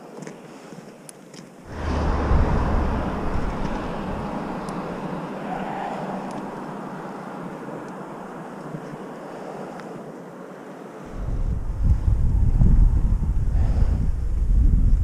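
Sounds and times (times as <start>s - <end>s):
wind rumbling on microphone: 1.6s - 15.0s.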